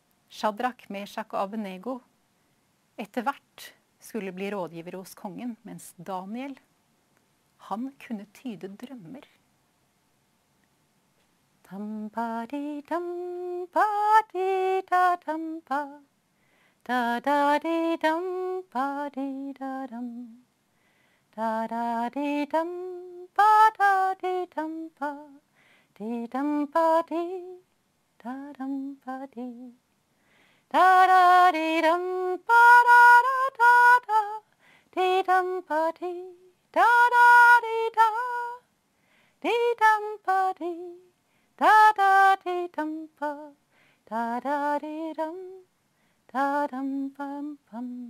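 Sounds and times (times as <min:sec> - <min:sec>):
woman singing unaccompanied: 0:00.0 - 0:02.1, 0:03.0 - 0:06.7, 0:07.6 - 0:09.4, 0:11.6 - 0:16.2, 0:16.8 - 0:20.5, 0:21.3 - 0:29.9, 0:30.7 - 0:38.7, 0:39.4 - 0:48.0.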